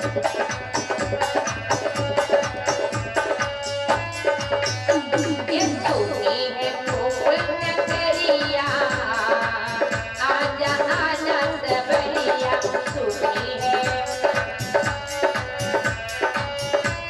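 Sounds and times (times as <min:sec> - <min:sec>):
hand drum rhythm: 0:00.0 - 0:17.0.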